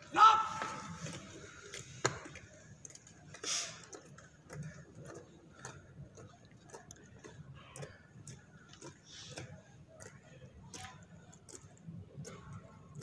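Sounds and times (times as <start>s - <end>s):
faint clicks and taps: 1.0s - 13.0s.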